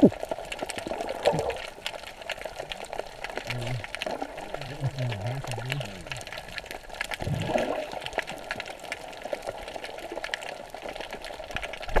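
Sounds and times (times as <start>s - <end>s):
gush of bubbles: 0.0s - 12.0s
underwater sloshing and bubbling: 0.0s - 12.0s.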